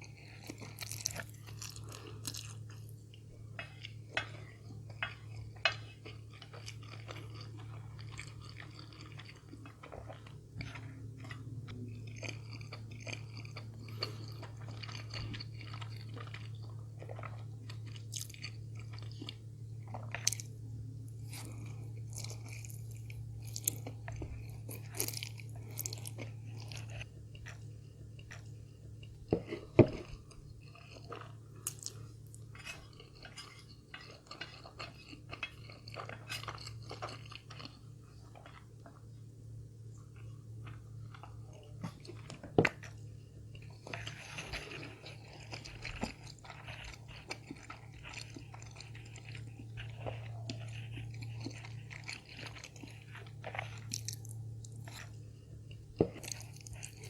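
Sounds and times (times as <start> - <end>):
food chewing and crunching: 0.0 - 57.0
low steady hum: 0.0 - 57.0.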